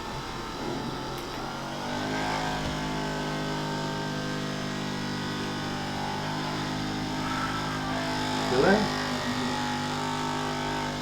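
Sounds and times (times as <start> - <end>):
massager motor humming: 0.0 - 11.0.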